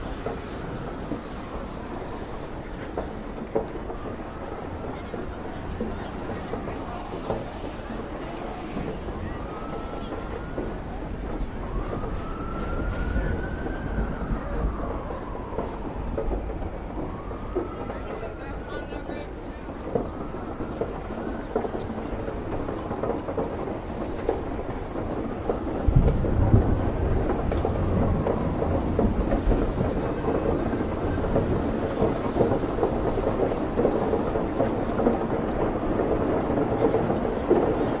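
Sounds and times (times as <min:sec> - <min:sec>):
steady rain: 0:00.0 - 0:38.0
thunder rumbling: 0:00.0 - 0:38.0.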